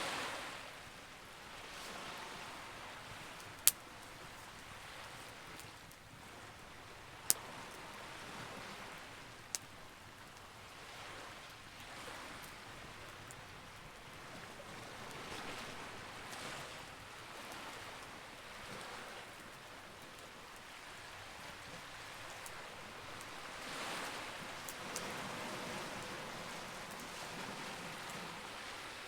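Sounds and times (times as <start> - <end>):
campfire crackling: 1.2 - 29.0.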